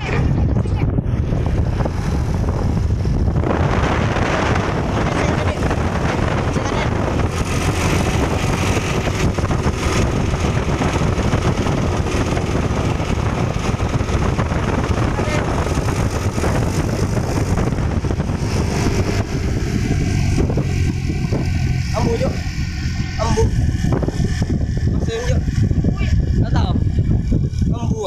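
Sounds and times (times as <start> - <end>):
road and tyre noise: 0.0 - 28.0
truck engine running: 0.0 - 28.0.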